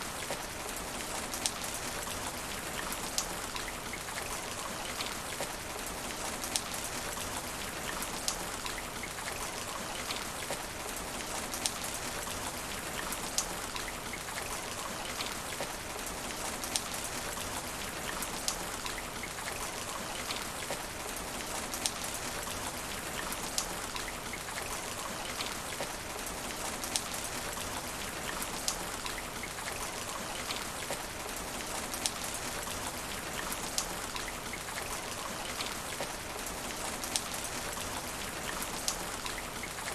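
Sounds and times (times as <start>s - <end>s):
rain on asphalt: 0.0s - 39.9s.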